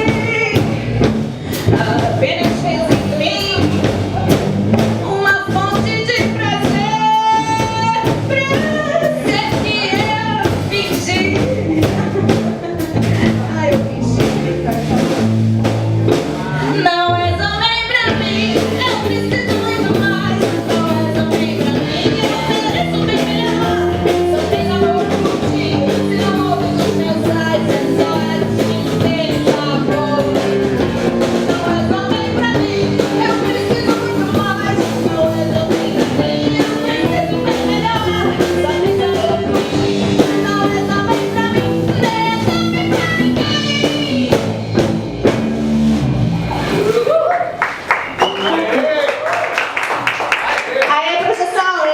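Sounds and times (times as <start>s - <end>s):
live rock band playing: 0.0s - 47.2s
electric guitar: 0.0s - 47.3s.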